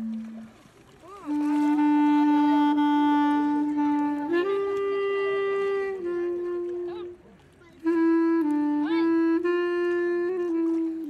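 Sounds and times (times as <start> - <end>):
reedy wind instrument long notes: 0.0 - 11.0.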